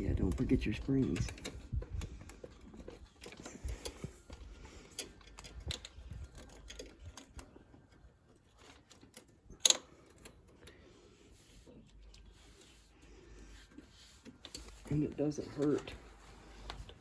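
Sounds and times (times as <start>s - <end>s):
small metal parts clicking and rattling: 0.0s - 17.0s.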